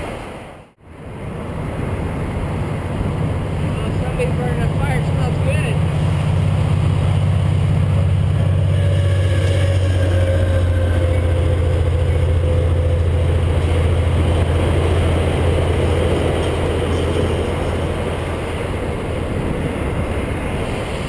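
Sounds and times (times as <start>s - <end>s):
road and traffic noise: 0.0s - 21.0s
wind buffeting microphone: 0.8s - 21.0s.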